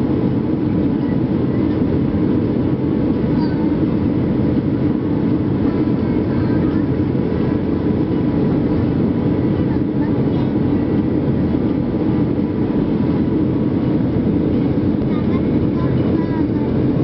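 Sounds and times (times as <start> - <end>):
airliner engines droning in cabin: 0.0 - 17.0.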